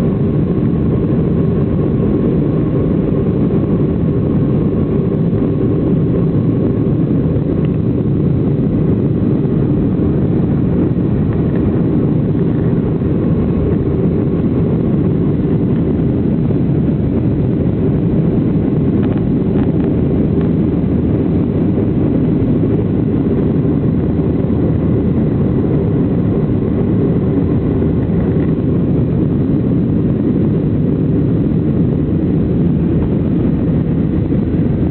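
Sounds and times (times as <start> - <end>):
airliner cabin drone: 0.0 - 34.9.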